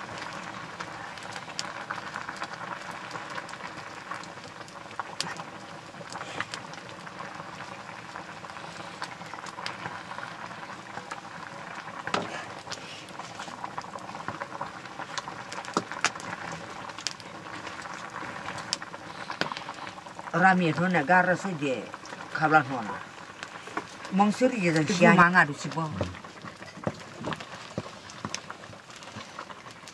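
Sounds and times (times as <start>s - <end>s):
greens simmering in a wok: 0.0s - 29.9s.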